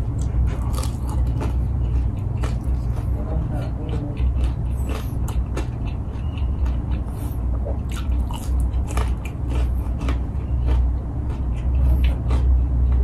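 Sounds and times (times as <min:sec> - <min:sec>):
person chewing crunchy food: 0:00.0 - 0:13.0
steady low hum: 0:00.0 - 0:13.0.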